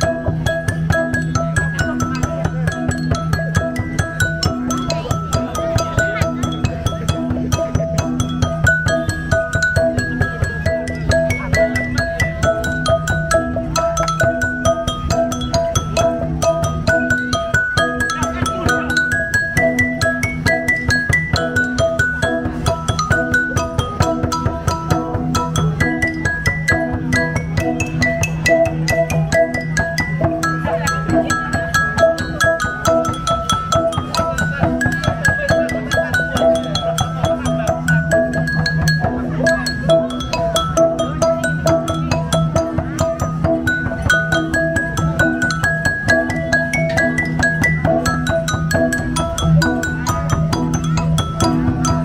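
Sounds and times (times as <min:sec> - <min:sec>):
stone lithophone melody: 0:00.0 - 0:52.0.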